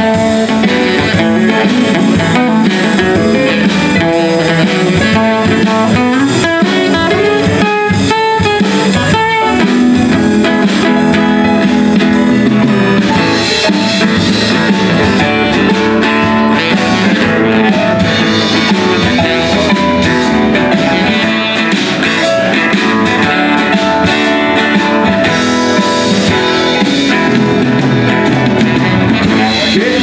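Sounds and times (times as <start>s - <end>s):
saxophone: 0.0s - 9.7s, 13.1s - 30.0s
drum kit: 0.0s - 30.0s
electric bass: 0.0s - 30.0s
strummed acoustic guitar: 0.0s - 30.0s.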